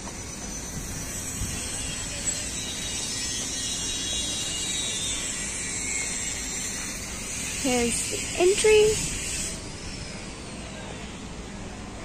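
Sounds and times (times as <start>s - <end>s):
high hiss: 0.0s - 11.0s.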